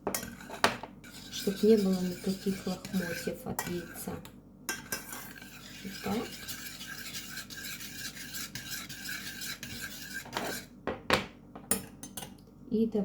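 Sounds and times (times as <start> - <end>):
utensil scraping a saucepan: 0.0 - 10.7.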